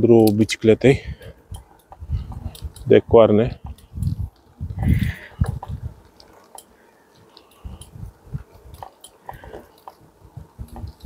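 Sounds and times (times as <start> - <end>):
bicycle crunching and clicking: 0.0 - 11.0.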